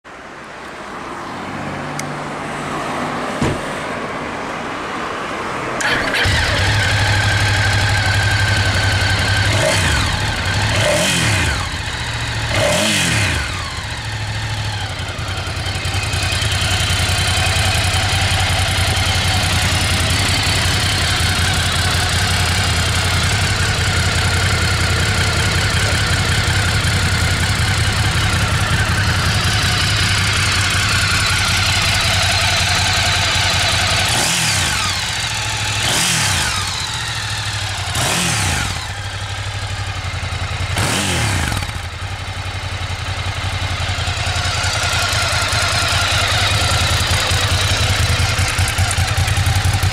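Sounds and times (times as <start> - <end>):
motorcycle engine idling: 5.8 - 49.9
motorcycle throttle revving: 5.8 - 49.9.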